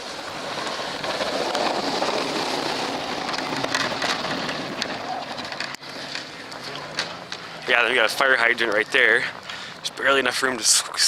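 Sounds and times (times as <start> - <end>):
snow plow truck rushing: 0.0 - 11.0.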